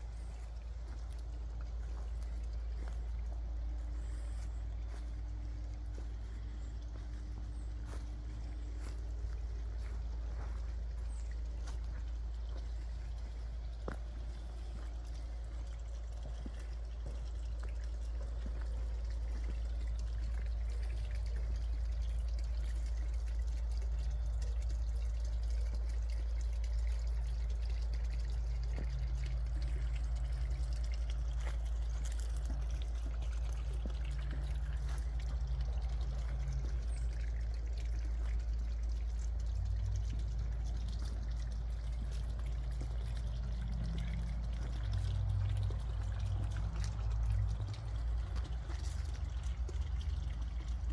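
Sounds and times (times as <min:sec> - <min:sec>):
fountain water trickling and splashing: 0:00.0 - 0:50.9
steady low rumble: 0:00.0 - 0:50.9.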